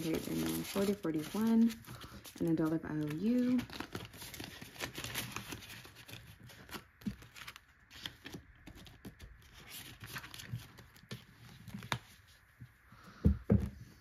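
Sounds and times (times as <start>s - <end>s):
paper bills rustling: 0.0s - 12.0s.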